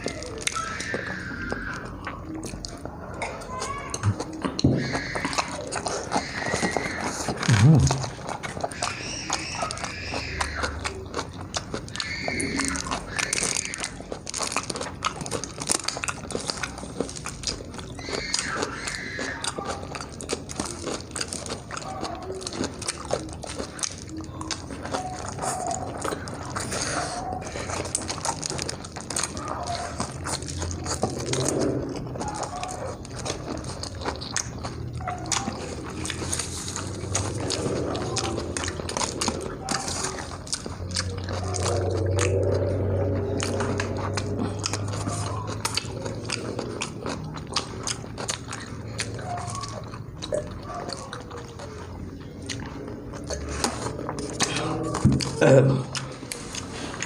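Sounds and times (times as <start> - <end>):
person chewing and biting food: 0.0 - 57.0
wet mouth clicks and crunches: 0.0 - 57.0.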